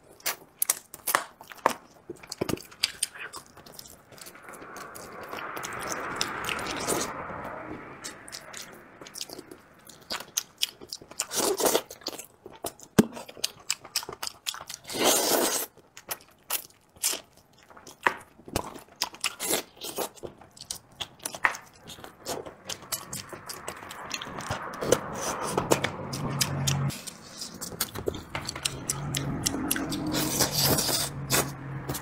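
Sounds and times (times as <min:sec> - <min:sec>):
man chewing meat: 0:00.0 - 0:32.0.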